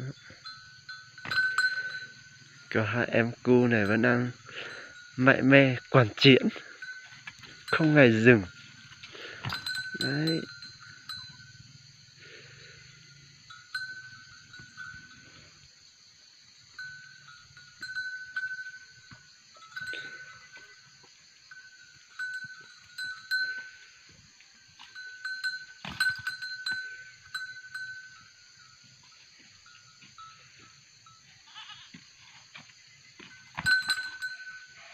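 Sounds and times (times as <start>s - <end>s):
goats butting horns: 0.0s - 15.5s, 16.7s - 28.3s, 31.6s - 34.9s
goat bells clinking: 0.0s - 34.9s.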